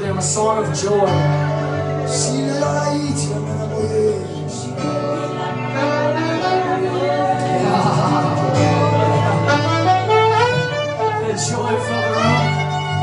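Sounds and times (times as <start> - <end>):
guitar: 0.0 - 13.0
person singing: 0.0 - 13.0
sustained bass notes: 0.0 - 13.0.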